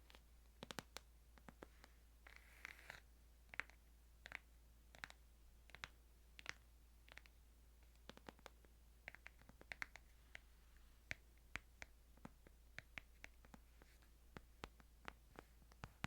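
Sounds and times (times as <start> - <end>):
fingers tapping a book: 0.0 - 16.0.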